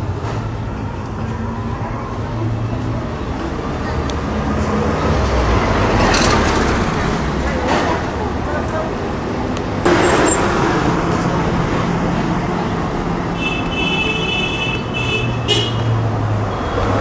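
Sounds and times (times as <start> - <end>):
vehicle engines humming: 0.0 - 17.0.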